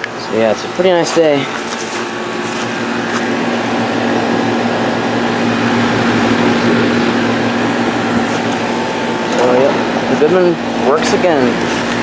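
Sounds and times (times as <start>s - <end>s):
air conditioner unit humming: 0.0s - 12.0s
fan air rushing: 0.0s - 12.0s.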